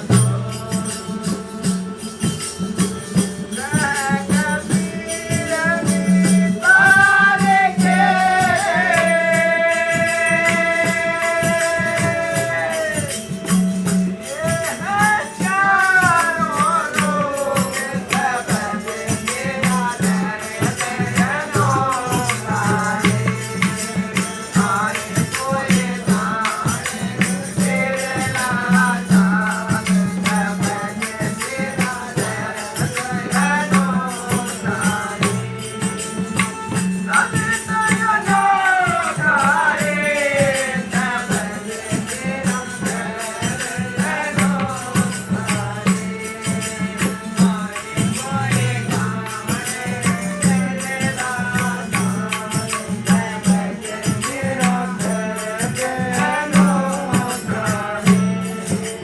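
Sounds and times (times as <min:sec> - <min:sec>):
person singing devotional melody: 0:00.0 - 0:59.0
shaken rattling percussion: 0:00.0 - 0:59.0.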